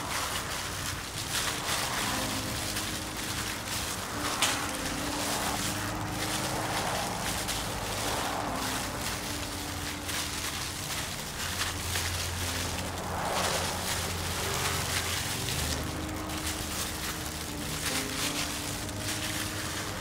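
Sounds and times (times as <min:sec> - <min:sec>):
plastic gloves crinkling: 0:00.0 - 0:20.0.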